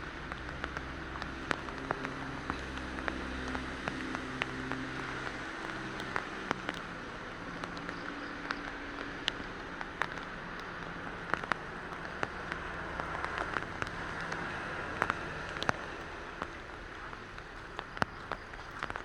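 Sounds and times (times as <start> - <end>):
drops ticking on hard surface: 0.0 - 19.0
steady rain patter: 0.0 - 19.0.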